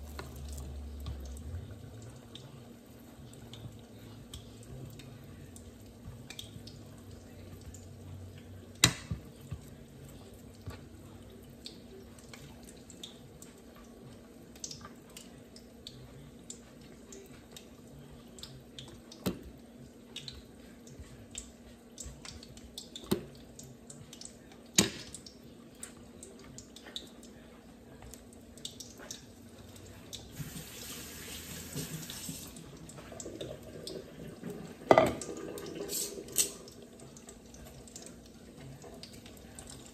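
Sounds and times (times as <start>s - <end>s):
food frying in oil: 0.0s - 39.9s.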